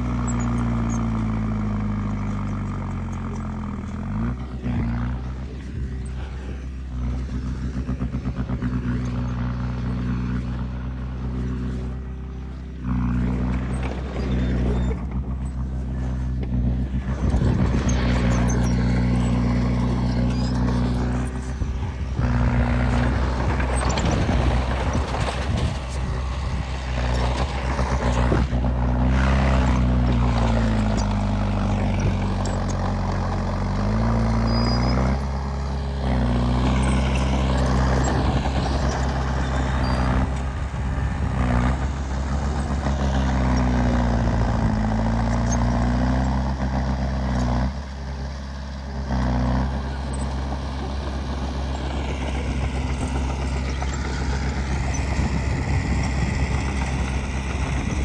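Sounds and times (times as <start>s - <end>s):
clanking and scraping: 0.0s - 40.6s, 49.2s - 58.0s
heavy diesel engine running: 0.0s - 58.0s.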